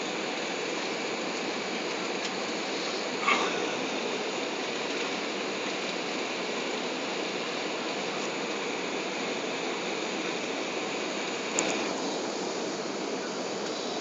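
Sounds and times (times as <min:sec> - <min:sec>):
airplane cabin engine noise: 0:00.0 - 0:14.0.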